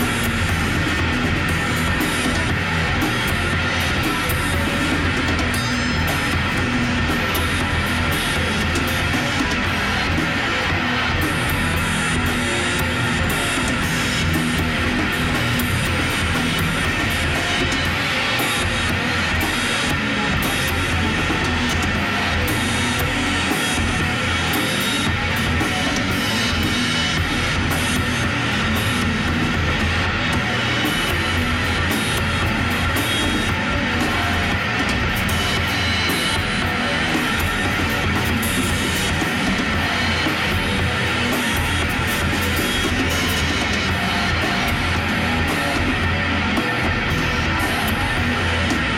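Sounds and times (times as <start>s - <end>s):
heavy rock drums and guitar: 0.0s - 48.9s.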